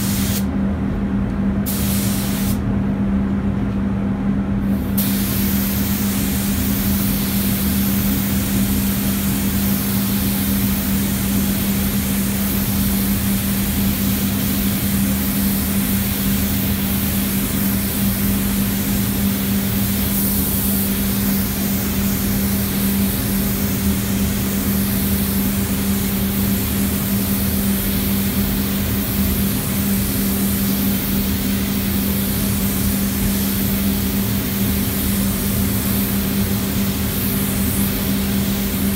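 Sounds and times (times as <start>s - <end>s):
spray gun hissing: 0.0s - 0.5s, 1.7s - 2.6s, 4.8s - 38.9s
steady low hum: 0.0s - 38.9s.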